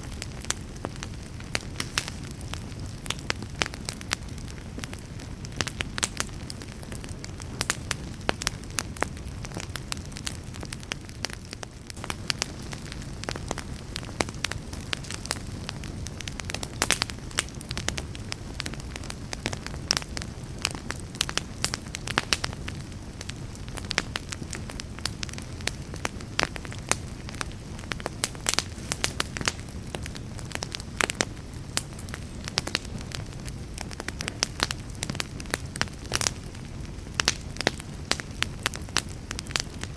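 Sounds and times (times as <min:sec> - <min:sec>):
burning wood crackling and popping: 0:00.0 - 0:39.9
wood fire flames rumbling: 0:00.0 - 0:39.9.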